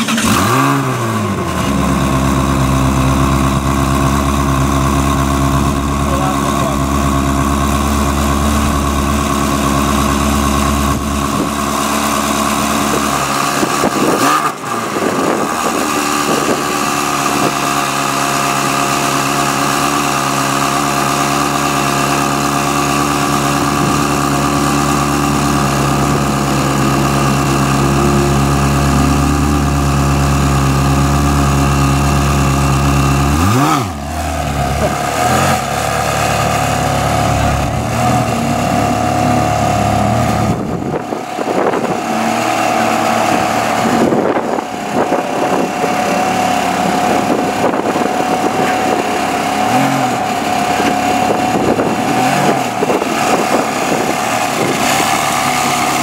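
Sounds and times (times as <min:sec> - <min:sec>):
sports car engine idling: 0:01.0 - 0:56.0.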